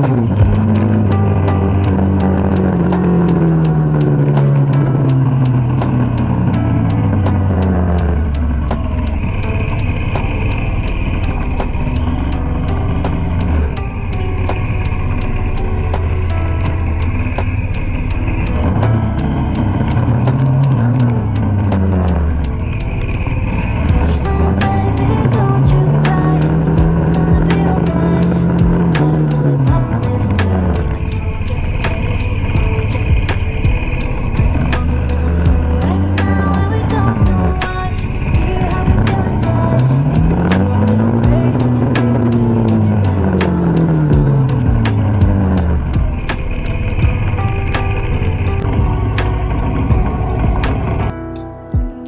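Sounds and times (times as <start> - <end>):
motorcycle engine slowing down: 0.0 - 51.2
music with a steady beat: 0.0 - 52.0.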